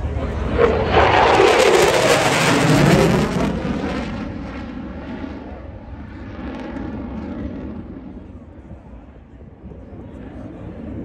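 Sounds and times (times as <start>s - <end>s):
jet passing by: 0.0s - 11.0s.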